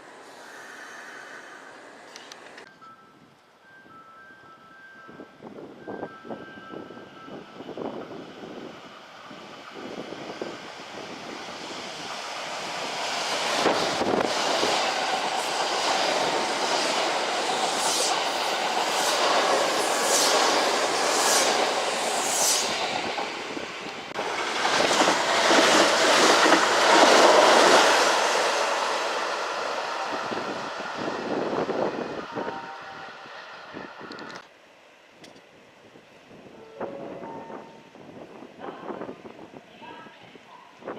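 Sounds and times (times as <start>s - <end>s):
electric train running on rails: 0.0s - 35.4s, 36.2s - 40.9s.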